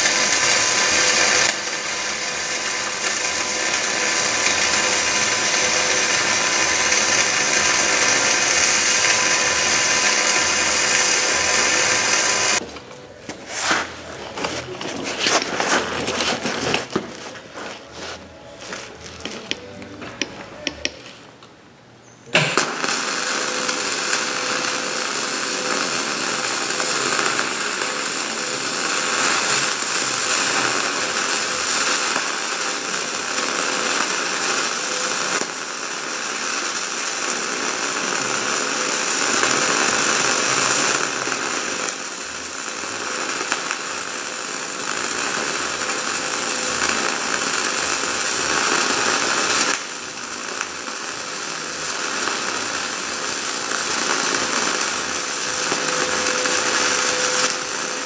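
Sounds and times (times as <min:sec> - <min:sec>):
welding arc sizzling crackle: 0:00.0 - 0:21.5, 0:22.3 - 0:58.0.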